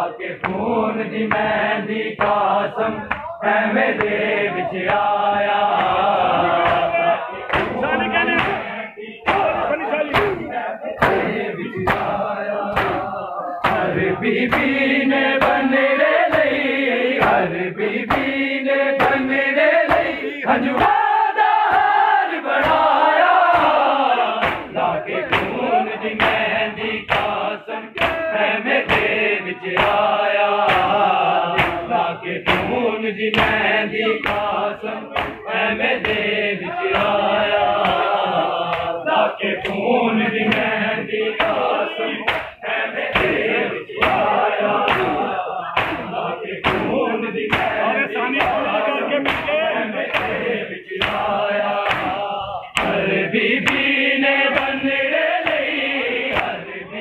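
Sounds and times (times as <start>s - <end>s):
men chanting in unison: 0.0s - 57.0s
hands slapping chests: 0.4s - 4.2s, 4.8s - 39.0s, 39.6s - 47.8s, 48.4s - 56.6s.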